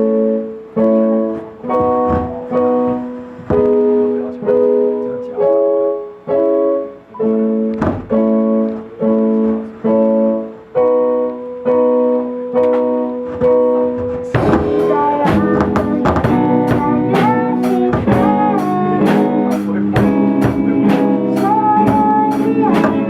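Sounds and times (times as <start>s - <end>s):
guitar: 0.0s - 23.0s
live band playing: 0.0s - 23.0s
sustained piano chords: 0.0s - 23.0s
drums: 0.9s - 5.0s, 7.8s - 23.0s.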